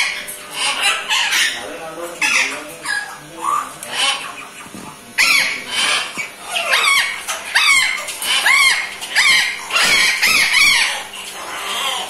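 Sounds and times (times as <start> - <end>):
parrot squawking: 0.0 - 12.0.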